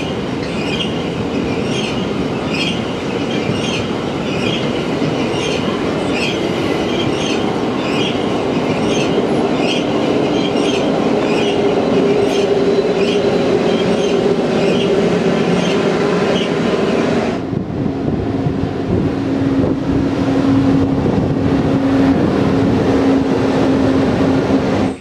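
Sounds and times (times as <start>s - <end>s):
electric locomotive humming: 0.0s - 25.0s
freight train rumbling past: 0.0s - 25.0s.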